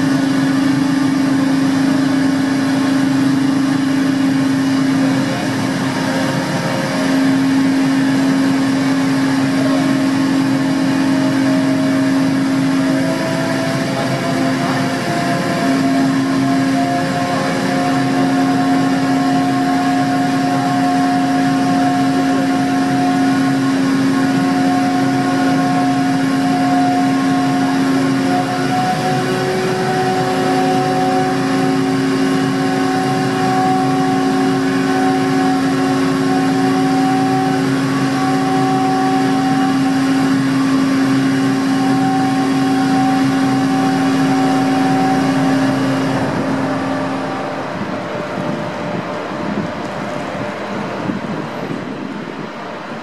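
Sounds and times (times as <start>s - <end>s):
broad rushing noise: 0.0s - 53.0s
ship engines humming: 0.0s - 53.0s.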